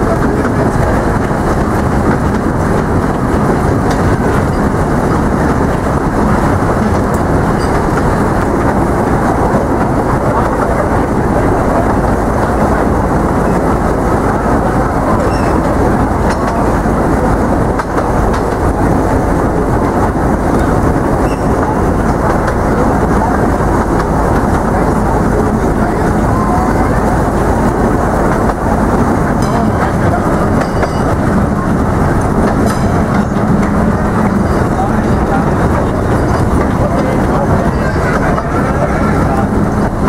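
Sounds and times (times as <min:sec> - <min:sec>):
train wheels on rails: 0:00.0 - 0:40.0.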